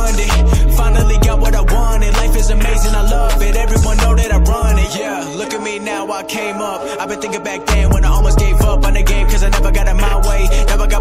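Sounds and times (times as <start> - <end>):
hip hop music with heavy bass: 0.0 - 11.0.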